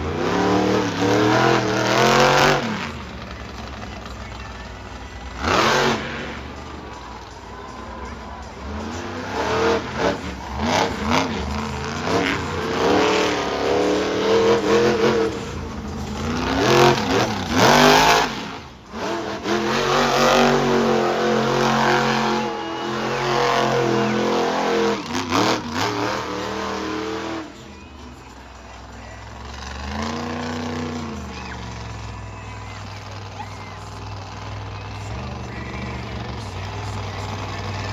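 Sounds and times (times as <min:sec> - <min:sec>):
monster truck engine revving: 0:00.0 - 0:37.9.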